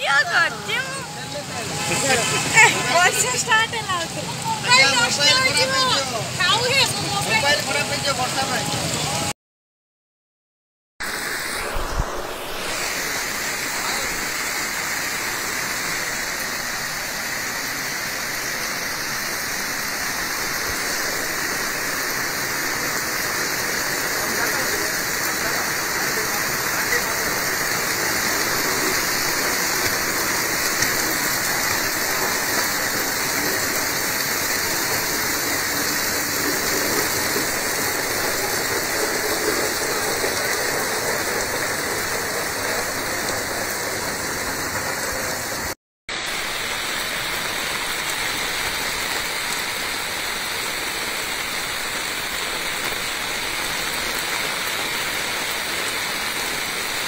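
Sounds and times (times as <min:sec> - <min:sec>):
floodwater running: 0:00.0 - 0:09.3, 0:11.0 - 0:57.0
heavy rain pouring: 0:00.0 - 0:09.3, 0:11.0 - 0:57.0.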